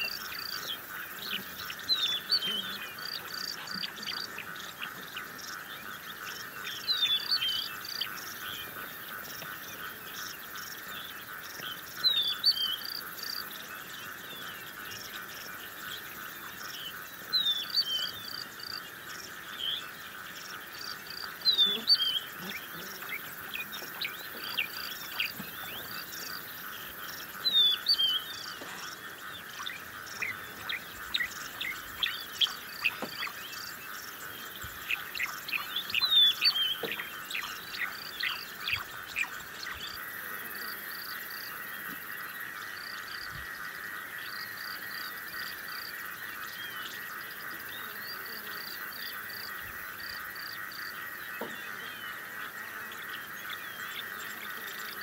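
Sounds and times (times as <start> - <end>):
insects and frogs chorus: 0.0 - 55.0
wild birds chirping: 0.0 - 55.0.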